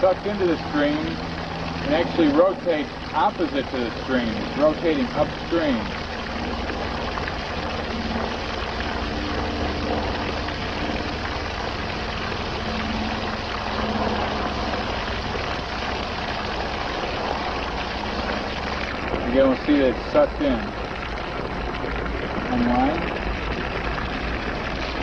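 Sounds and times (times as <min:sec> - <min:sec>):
water gushing from hose: 0:00.0 - 0:25.0.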